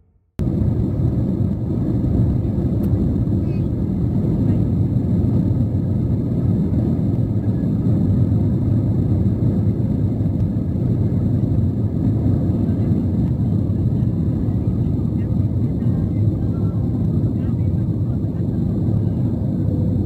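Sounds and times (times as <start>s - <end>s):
jet takeoff rumble in cabin: 0.4s - 20.0s.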